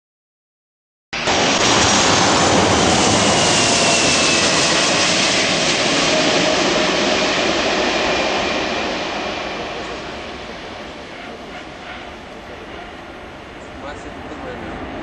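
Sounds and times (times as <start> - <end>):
faint jet whine: 1.2 - 15.0
jet engines roaring: 1.2 - 15.0.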